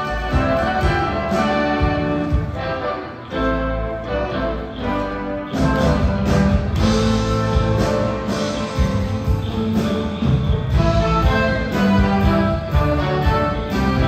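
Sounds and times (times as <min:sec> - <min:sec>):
rock band and orchestra playing: 0:00.0 - 0:14.0.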